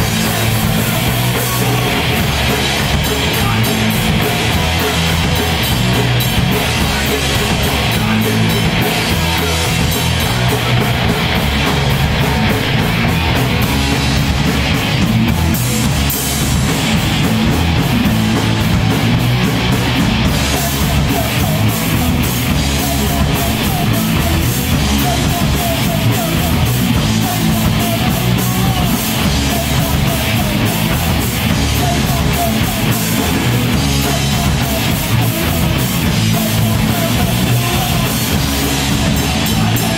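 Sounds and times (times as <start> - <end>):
bass guitar: 0.0 - 39.9
drum kit: 0.0 - 39.9
electric guitars: 0.0 - 39.9.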